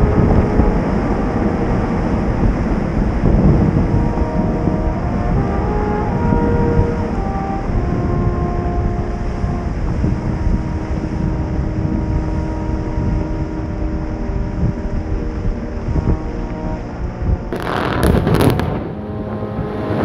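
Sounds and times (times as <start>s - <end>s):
steady low rumble: 0.0s - 20.0s
sustained tones shifting pitch: 0.0s - 20.0s
wind buffeting microphone: 0.0s - 20.0s.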